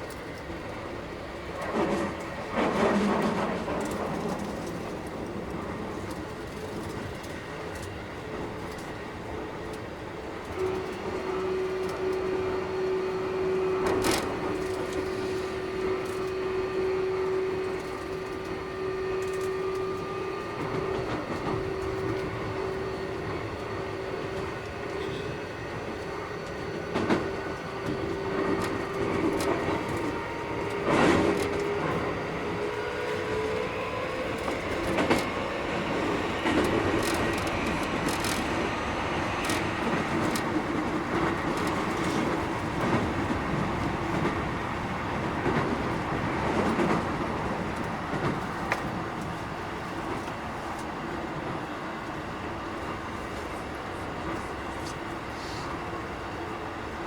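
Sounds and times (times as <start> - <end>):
train motor hum: 0.0 - 57.0
train wheel noise: 0.0 - 57.0.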